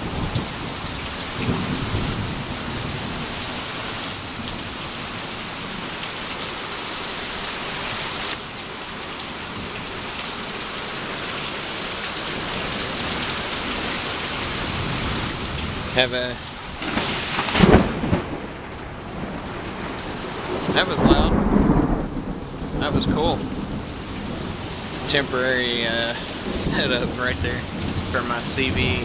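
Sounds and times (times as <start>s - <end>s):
heavy rain downpour: 0.0s - 29.0s.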